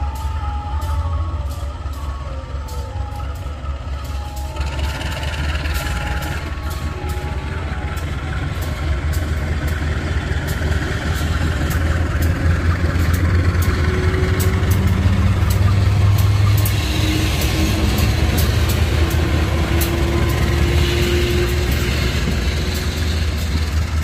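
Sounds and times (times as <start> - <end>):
diesel locomotive engine passing: 0.0 - 24.0.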